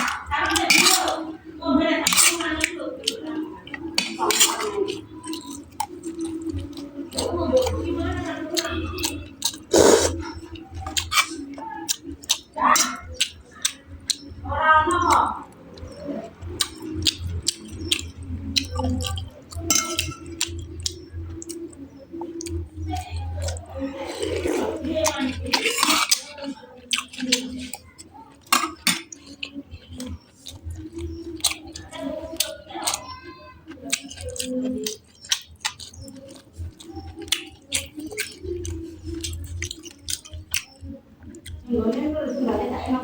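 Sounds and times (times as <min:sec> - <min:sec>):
chewing food: 0:00.0 - 0:43.0
wet mouth clicks and smacks: 0:02.6 - 0:07.8, 0:08.6 - 0:14.3, 0:15.0 - 0:23.7, 0:25.4 - 0:41.6.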